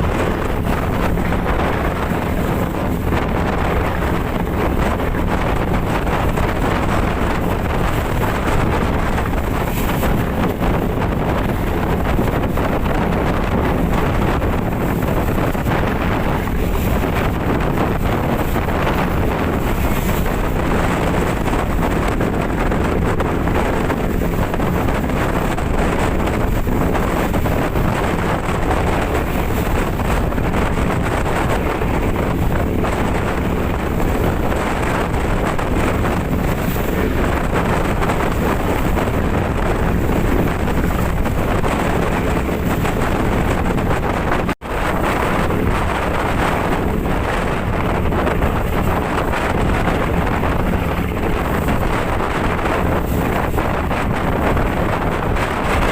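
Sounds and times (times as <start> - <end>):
boat engine rumble: 0.0 - 55.9
wind buffeting microphone: 0.0 - 55.9.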